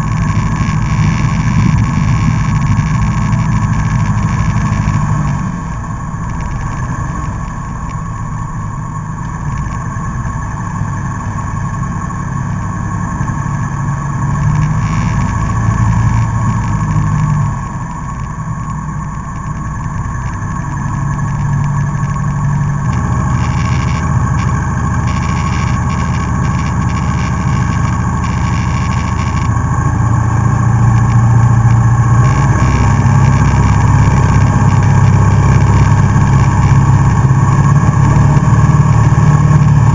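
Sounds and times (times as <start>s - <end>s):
propeller plane engine: 0.0s - 39.9s.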